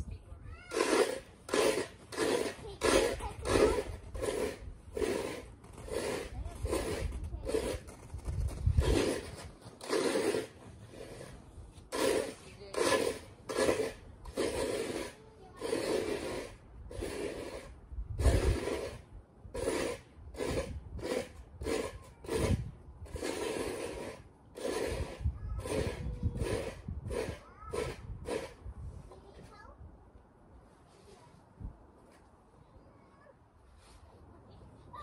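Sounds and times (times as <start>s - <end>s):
shovel scraping snow: 0.5s - 29.4s.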